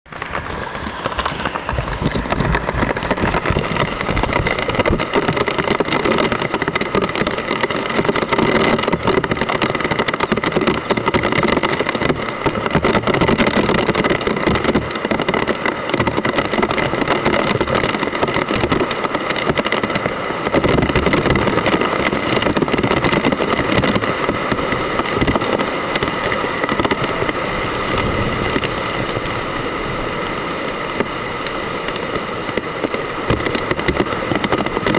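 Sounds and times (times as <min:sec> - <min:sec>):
heavy rain in strong wind: 0:00.1 - 0:34.9.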